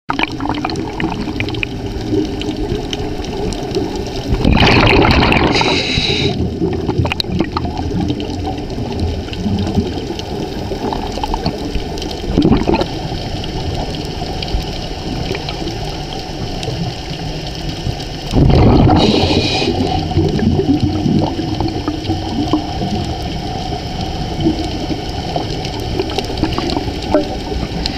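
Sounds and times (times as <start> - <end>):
muffled underwater wash: 0.1 - 27.9
regulator bubbles surging: 0.1 - 27.9.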